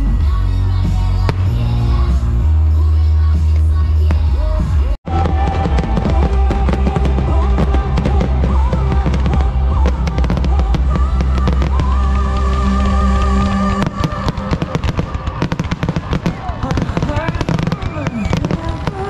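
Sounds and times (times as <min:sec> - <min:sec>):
music with heavy bass: 0:00.0 - 0:17.7
fireworks bursting: 0:00.9 - 0:02.7, 0:03.5 - 0:19.0.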